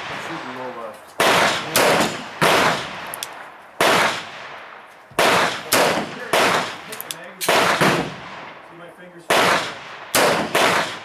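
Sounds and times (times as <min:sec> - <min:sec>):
revolver gunshots with echo: 0:00.0 - 0:11.0.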